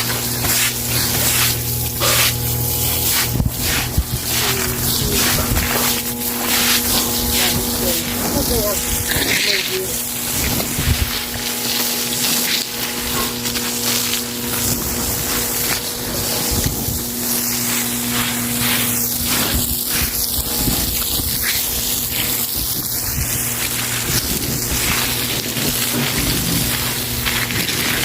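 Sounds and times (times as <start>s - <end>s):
broom scrubbing wet floor: 0.0s - 28.0s
low steady hum: 0.0s - 28.0s
steady hiss: 0.0s - 28.0s.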